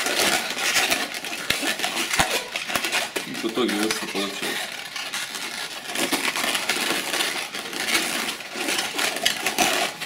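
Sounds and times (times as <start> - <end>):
balloons squeaking and creaking: 0.0 - 10.0.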